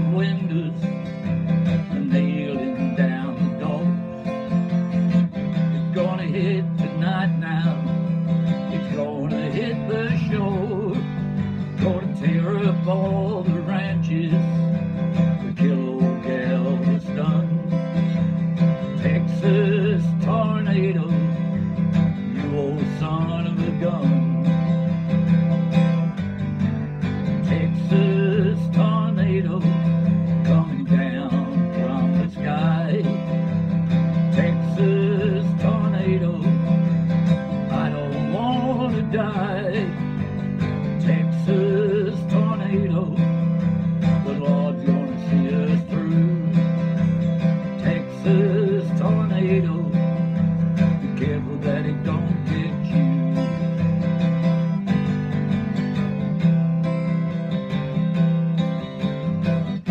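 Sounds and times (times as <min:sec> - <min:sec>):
man singing: 0:00.0 - 0:25.3, 0:27.2 - 0:54.0
acoustic guitar strumming: 0:00.0 - 0:59.9.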